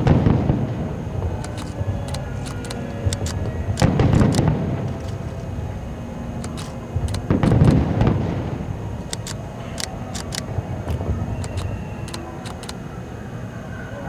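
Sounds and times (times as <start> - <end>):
firework shell booming: 0.0 - 11.7.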